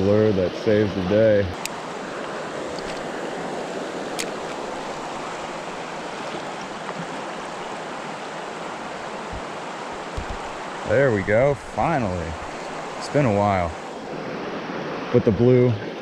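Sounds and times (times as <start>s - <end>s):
creek water running over riffle: 0.0s - 16.0s.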